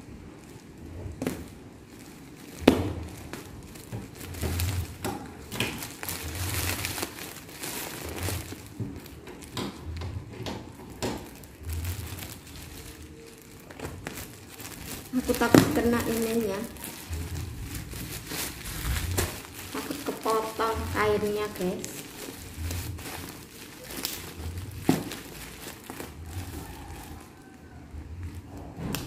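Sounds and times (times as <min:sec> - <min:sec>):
plastic wrapping crinkling: 0:00.0 - 0:29.0.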